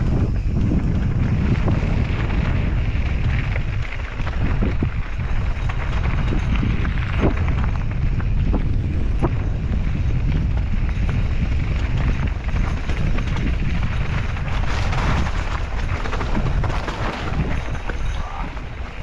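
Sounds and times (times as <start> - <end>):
bike rattling: 0.0 - 19.0
wind rumble on microphone: 0.0 - 19.0.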